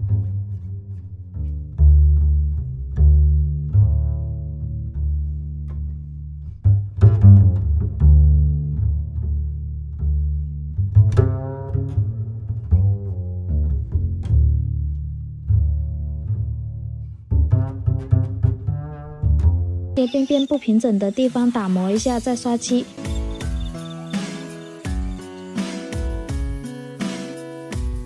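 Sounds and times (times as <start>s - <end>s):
low strings background music: 0.0s - 20.5s, 21.4s - 28.0s.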